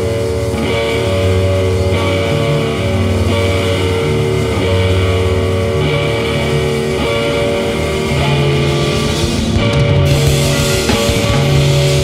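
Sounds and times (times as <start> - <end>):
bass guitar: 0.0 - 12.0
drums: 0.0 - 12.0
electric guitar: 0.0 - 12.0.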